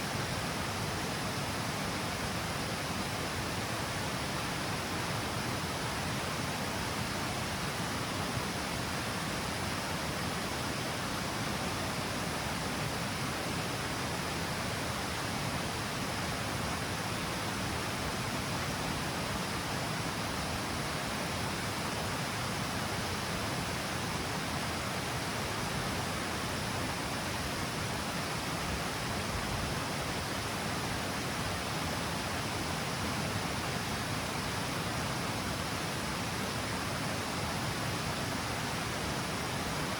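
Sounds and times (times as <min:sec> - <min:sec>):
water rushing over cascade: 0:00.0 - 0:39.9.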